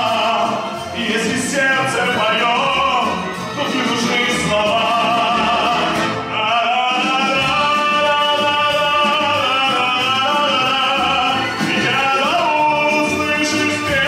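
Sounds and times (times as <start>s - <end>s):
man singing into microphone: 0.0s - 14.0s
orchestral twist music: 0.0s - 14.0s.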